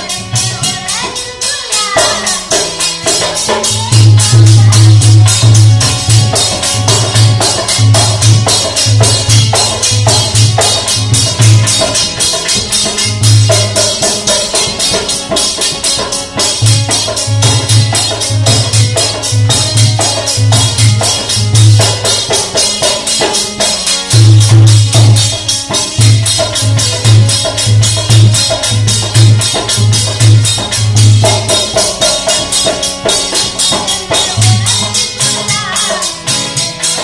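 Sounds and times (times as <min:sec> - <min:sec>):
dholak drum beating: 0:00.0 - 0:37.0
harmonium melody: 0:00.0 - 0:37.0.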